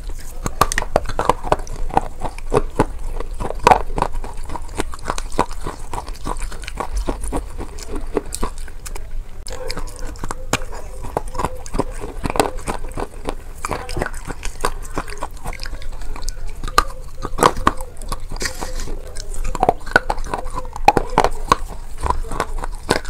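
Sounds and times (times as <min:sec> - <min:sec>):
crunchy wafer chewing: 0:00.0 - 0:23.0.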